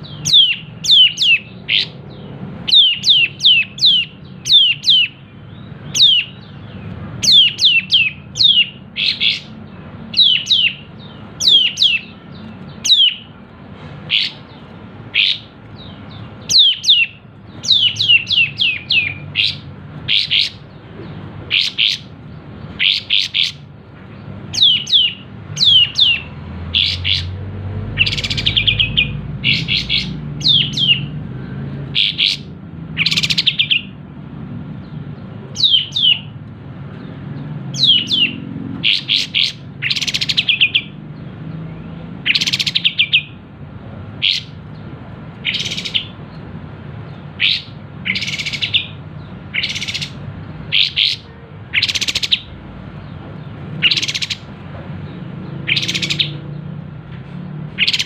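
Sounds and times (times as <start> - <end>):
bird calling in sharp phrases: 0.0 - 58.0.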